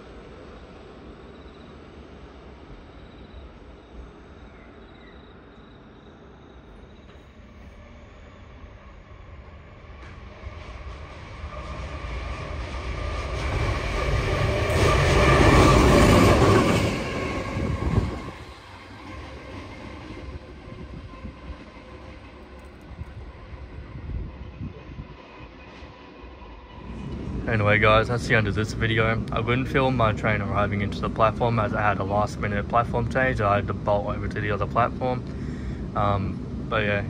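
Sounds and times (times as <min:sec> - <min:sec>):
diesel train passing: 0:00.0 - 0:37.0.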